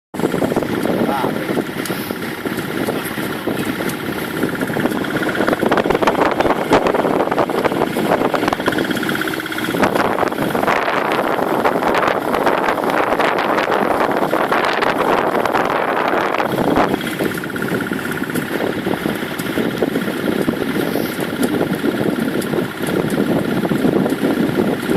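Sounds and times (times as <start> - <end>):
wind buffeting microphone: 0.2 - 24.9.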